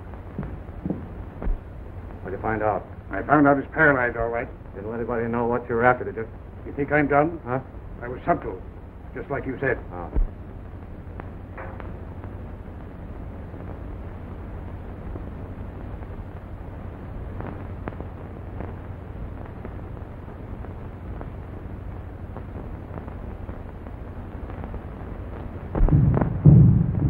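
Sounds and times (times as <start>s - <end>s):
film soundtrack hiss and hum: 0.0s - 27.0s.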